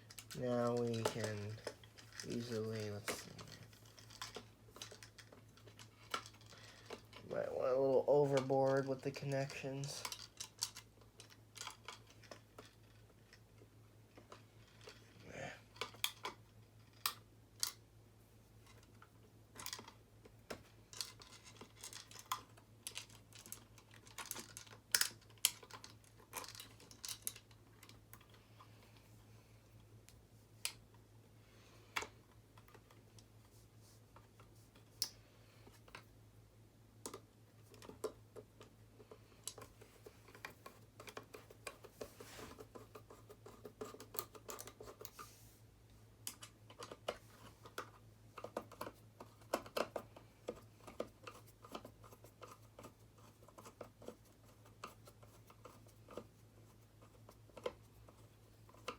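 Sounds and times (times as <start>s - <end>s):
hands handling wires and parts: 0.0s - 17.8s, 18.4s - 31.3s, 31.9s - 36.3s, 37.0s - 58.9s.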